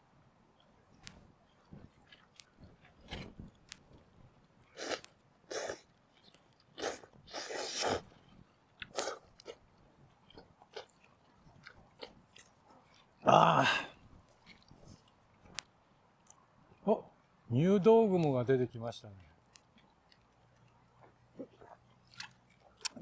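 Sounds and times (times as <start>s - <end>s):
person chewing food: 0.6s - 17.3s, 19.3s - 23.0s.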